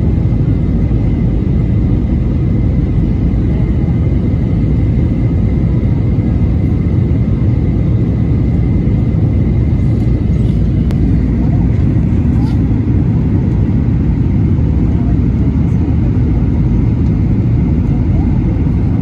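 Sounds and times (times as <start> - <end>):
jet cabin engine rumble: 0.0 - 19.0.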